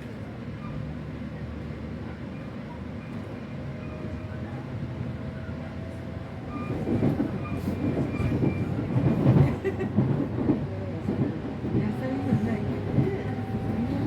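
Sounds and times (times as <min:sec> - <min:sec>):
train wheels clickety-clack on rails: 0:00.0 - 0:14.0.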